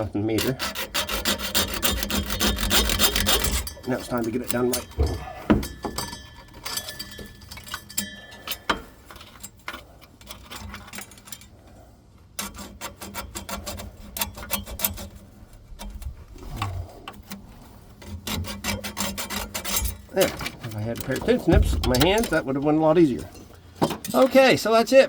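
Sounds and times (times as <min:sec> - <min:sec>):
metallic tool clicks and scrapes: 0:00.0 - 0:22.5.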